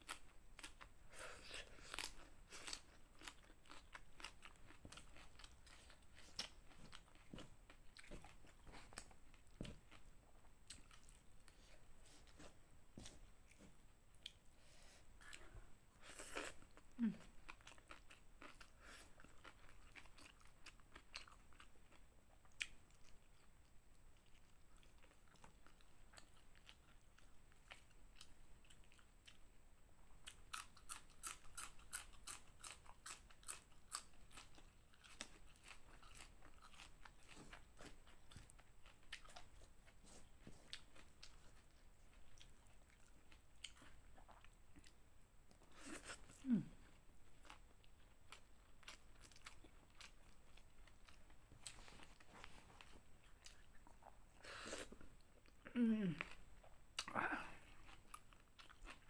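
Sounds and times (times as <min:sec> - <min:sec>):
person chewing: 0:00.0 - 0:29.5, 0:30.2 - 0:59.0.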